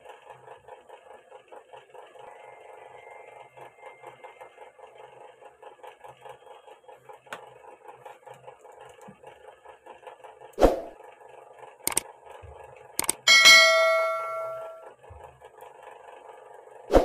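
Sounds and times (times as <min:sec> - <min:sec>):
ticking mechanical hum: 0:00.0 - 0:16.9.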